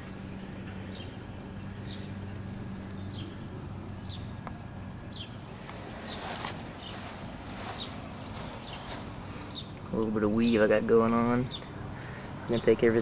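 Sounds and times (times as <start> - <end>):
steady low hum: 0.0 - 12.9
small bird chirping: 0.9 - 10.6, 11.2 - 13.0.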